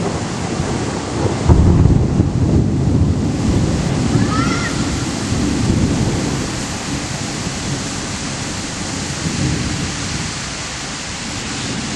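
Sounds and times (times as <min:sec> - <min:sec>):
low rumble of thunder: 0:00.0 - 0:11.9
steady rain hissing: 0:00.0 - 0:11.9.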